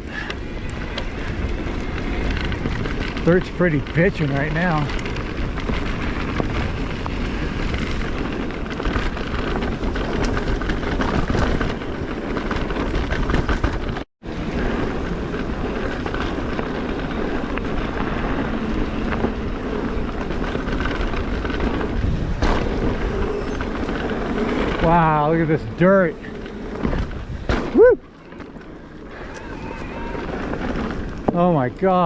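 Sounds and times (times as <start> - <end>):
wind rush on microphone: 0.0 - 28.1
bike rattling over bumps: 0.0 - 32.0
tyres rolling on dirt: 0.0 - 32.0.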